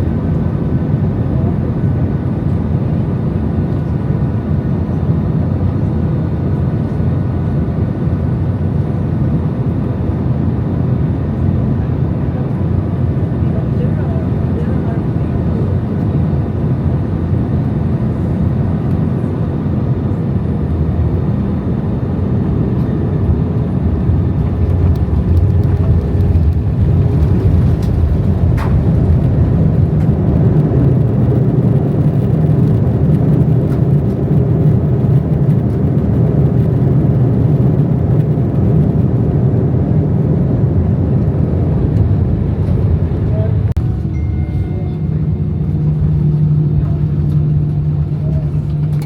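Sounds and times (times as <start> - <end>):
jet engines droning in cabin: 0.0 - 49.0.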